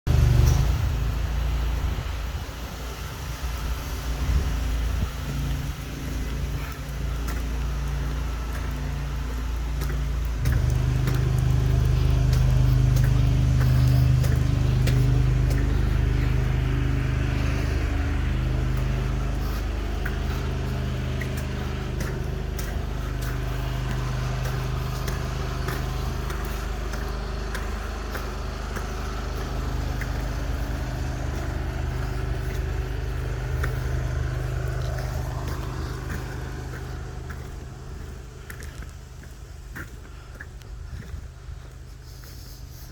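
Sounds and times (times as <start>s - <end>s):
pressure washer engine running: 0.1s - 3.1s, 4.6s - 40.4s
water jet hissing on concrete: 0.1s - 40.4s.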